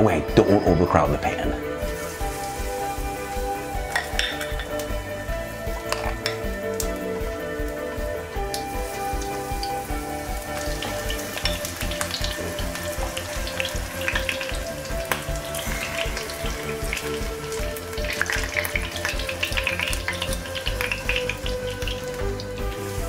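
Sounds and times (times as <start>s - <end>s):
batter sizzling in oil: 1.3s - 23.0s.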